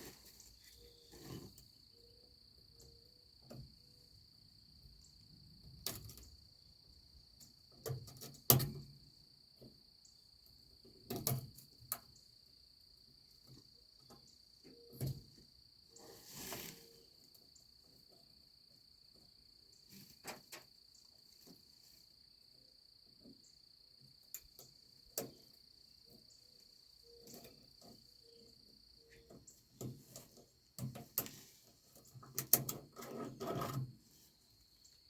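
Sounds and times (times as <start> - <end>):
insect trill: 0.2 - 35.0.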